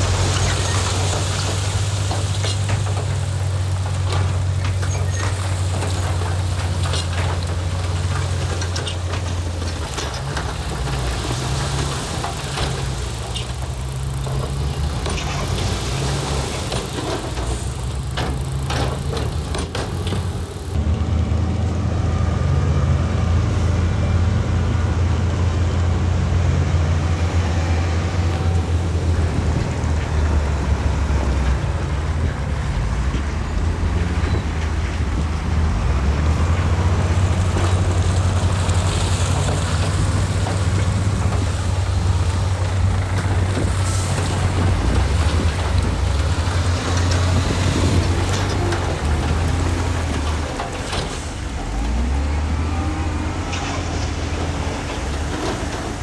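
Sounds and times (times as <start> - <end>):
metal clanks and rattles: 0.0 - 20.8, 27.8 - 56.0
heavy diesel engine running: 0.0 - 56.0.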